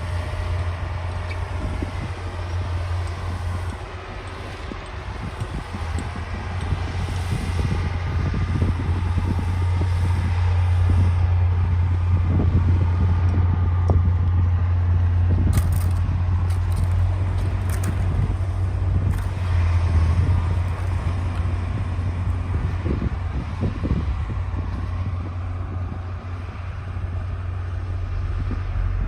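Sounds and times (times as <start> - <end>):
bulldozer diesel engine rumbling: 0.0 - 29.0.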